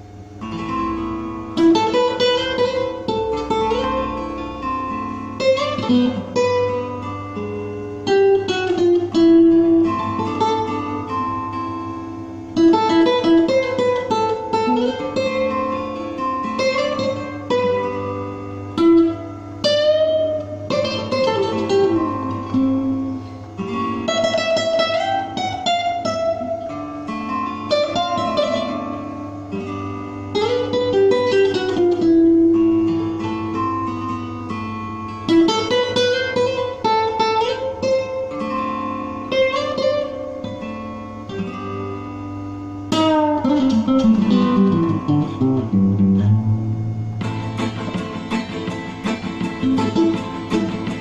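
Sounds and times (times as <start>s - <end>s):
classical guitar fingerstyle: 0.0s - 51.0s.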